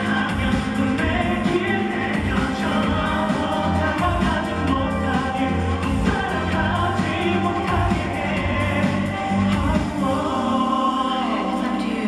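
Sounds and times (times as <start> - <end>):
man singing into a microphone: 0.0 - 12.0
pop backing track with bass: 0.0 - 12.0.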